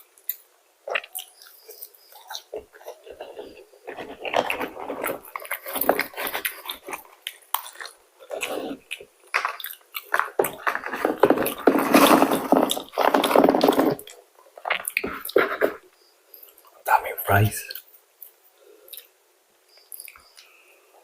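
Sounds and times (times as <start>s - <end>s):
chewing food with crackles: 0.0s - 16.8s, 17.7s - 20.7s.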